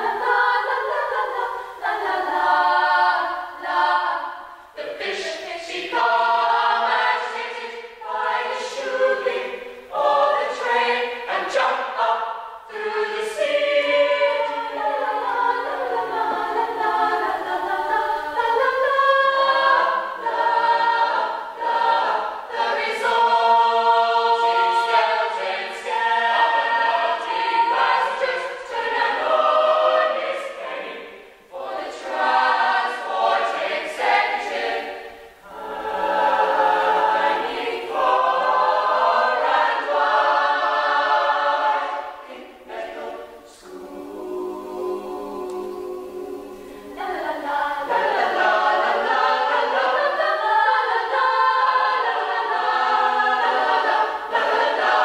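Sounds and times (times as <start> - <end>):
youth choir singing: 0.0 - 55.0.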